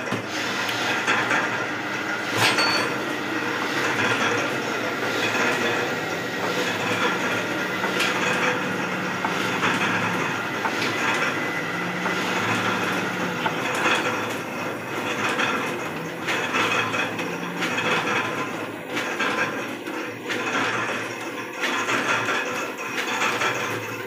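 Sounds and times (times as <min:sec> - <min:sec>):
printing press clatter: 0:00.0 - 0:24.0.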